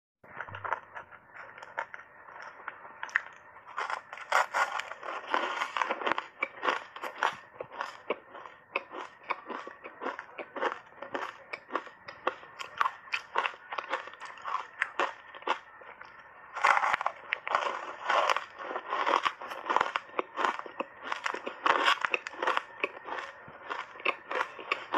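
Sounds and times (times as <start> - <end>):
ice crunching between teeth: 0.3 - 24.9.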